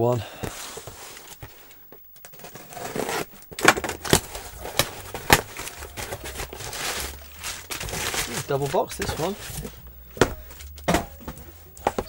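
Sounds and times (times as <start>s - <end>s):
cardboard flaps rustling: 0.4s - 12.0s.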